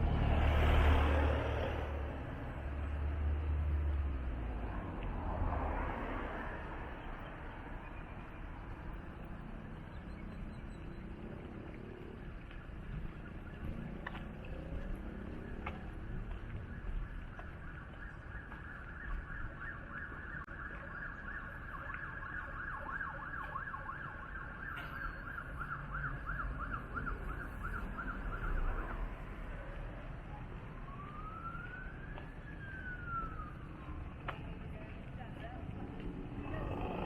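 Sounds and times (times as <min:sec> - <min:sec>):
emergency vehicle siren: 0:05.3 - 0:36.9.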